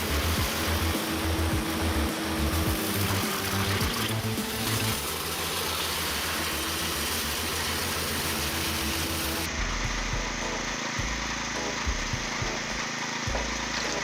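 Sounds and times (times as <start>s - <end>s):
machine sound: 0.0s - 14.0s
wood-processing machine engine rumbling: 0.0s - 14.0s.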